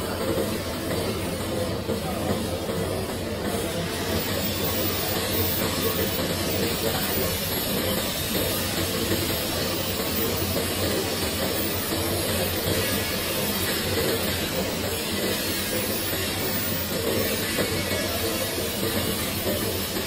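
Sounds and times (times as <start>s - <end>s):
forming machine humming and hissing: 0.0s - 20.0s.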